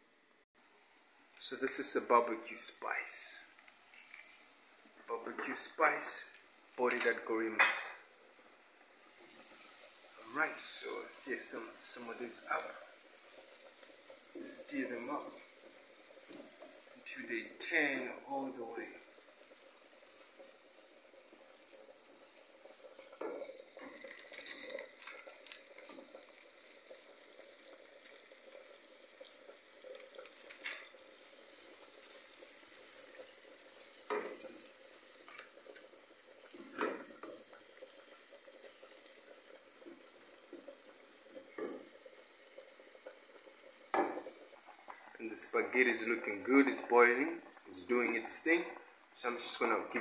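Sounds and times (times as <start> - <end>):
vegetables sizzling in a pan: 0.6 - 50.0.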